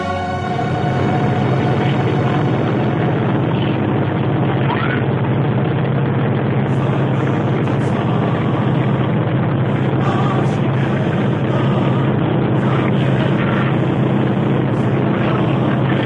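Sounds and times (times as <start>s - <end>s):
aircraft engine drone in cabin: 0.0s - 16.0s.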